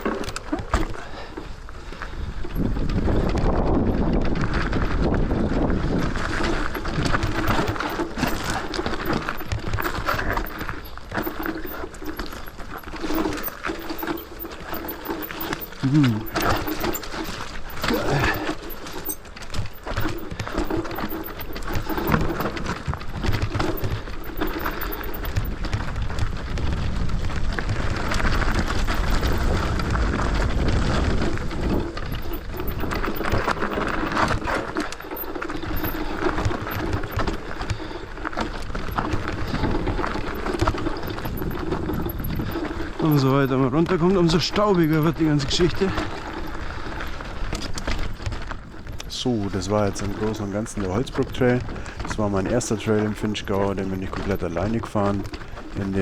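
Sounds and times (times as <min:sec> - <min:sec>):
bike rattling over bumps: 0:00.0 - 0:56.0
tyres crunching over dirt and stones: 0:00.0 - 0:56.0.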